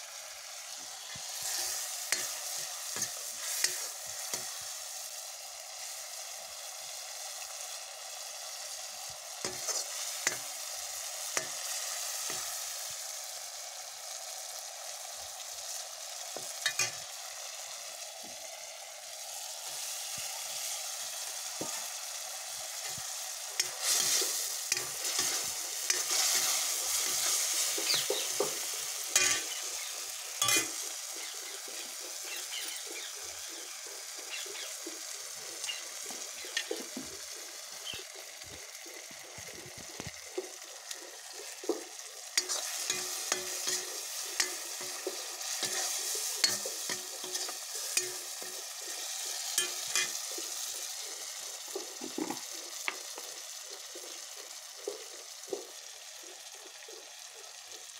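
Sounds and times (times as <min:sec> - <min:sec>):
food sizzling in oil: 0:00.0 - 0:57.9.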